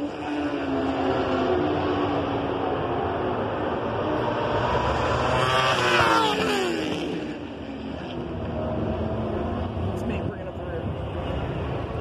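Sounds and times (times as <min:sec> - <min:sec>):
motorbike engine at high revs: 0:00.0 - 0:10.3
rushing background noise: 0:00.0 - 0:12.0.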